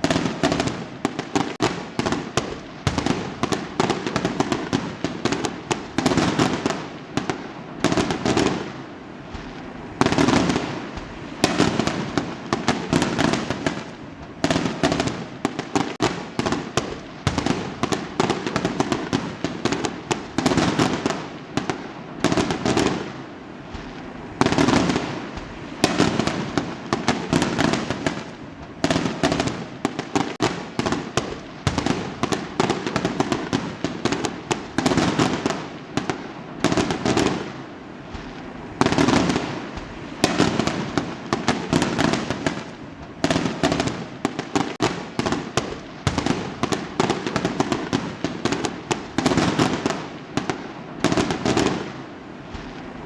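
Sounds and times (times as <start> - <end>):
fireworks banging: 0.0 - 53.0
fireworks crackling: 0.0 - 53.0.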